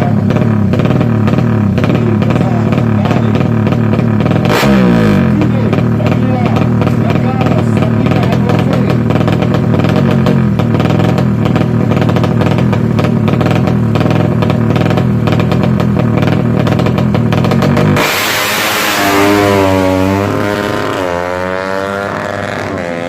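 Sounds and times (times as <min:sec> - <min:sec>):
motorcycle engine revving high: 0:00.0 - 0:23.0.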